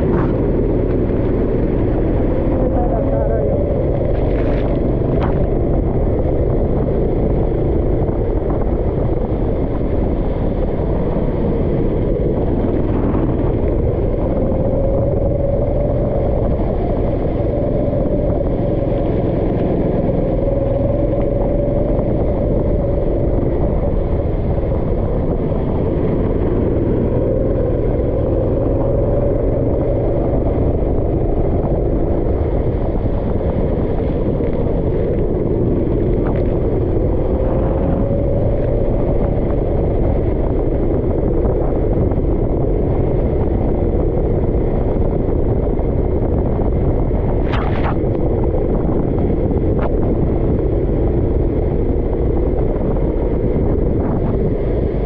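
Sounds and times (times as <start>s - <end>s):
vehicle engine low rumble: 0.0s - 55.0s.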